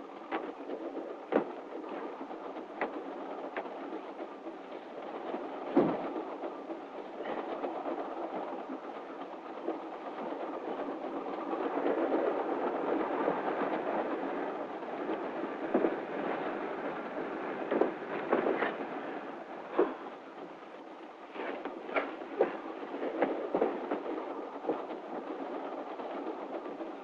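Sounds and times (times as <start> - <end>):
moving train running noise: 0.0 - 27.0.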